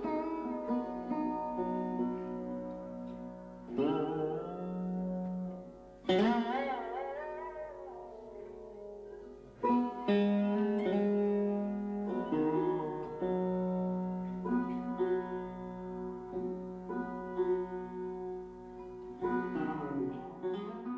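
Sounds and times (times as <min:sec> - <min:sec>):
plucked string instrument music: 0:00.0 - 0:20.9.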